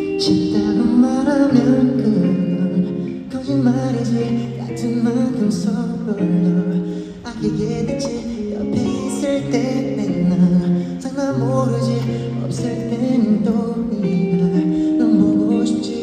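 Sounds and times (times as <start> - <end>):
live pop music with singer: 0.0 - 16.0.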